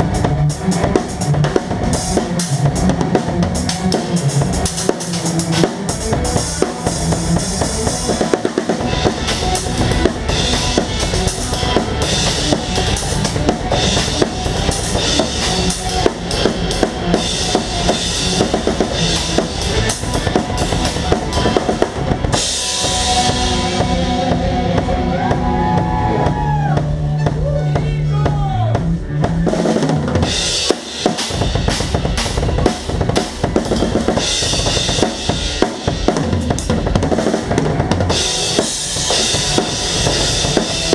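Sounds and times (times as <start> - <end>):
bass drum and snare beat: 0.0 - 40.9
gliding pitched notes: 0.0 - 40.9
rock band playing live: 0.0 - 40.9.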